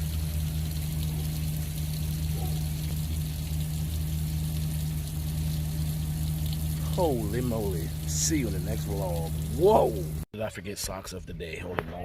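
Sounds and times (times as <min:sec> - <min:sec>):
low machine hum and hiss: 0:00.0 - 0:10.3
waste water pouring and splashing: 0:00.0 - 0:10.3.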